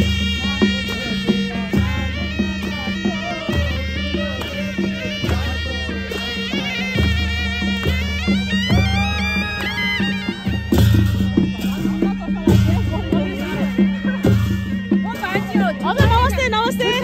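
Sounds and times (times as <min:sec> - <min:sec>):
brass horns playing melody: 0:00.0 - 0:17.0
drum beat: 0:00.0 - 0:17.0.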